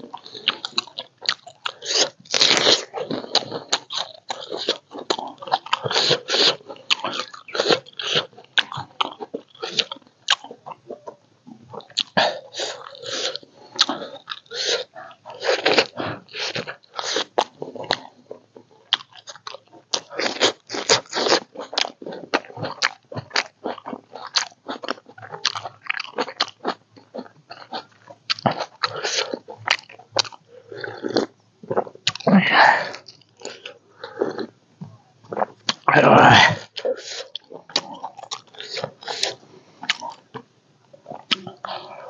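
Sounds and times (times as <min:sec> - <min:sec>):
chewing and crunching food: 0:00.0 - 0:42.0.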